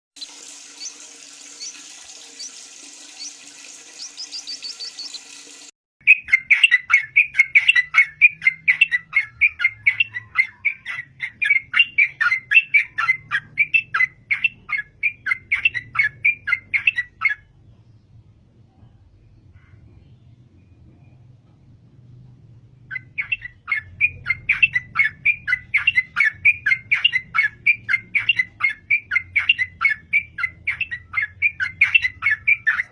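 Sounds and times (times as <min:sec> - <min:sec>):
bird singing bubbly notes: 0:00.2 - 0:17.5, 0:22.9 - 0:32.9.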